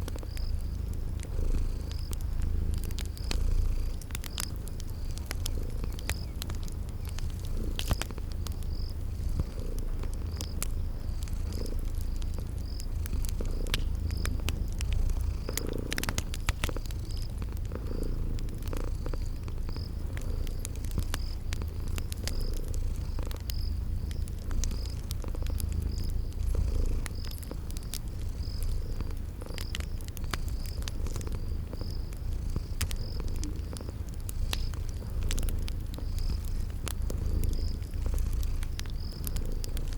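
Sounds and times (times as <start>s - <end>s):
cat purring: 0.0s - 39.9s
cricket chirping: 0.0s - 39.9s
wood fire crackling and popping: 0.0s - 39.9s.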